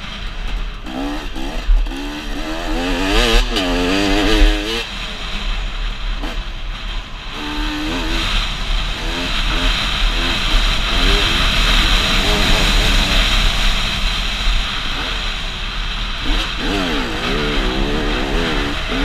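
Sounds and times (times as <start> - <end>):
dirt bike engine revving: 0.0 - 6.5, 7.2 - 19.0.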